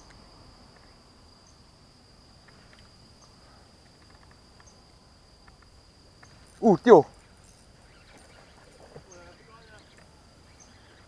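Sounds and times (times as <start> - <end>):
faint ticks: 0.0 - 1.0, 2.4 - 11.0
high-pitched insect trill: 0.0 - 11.0.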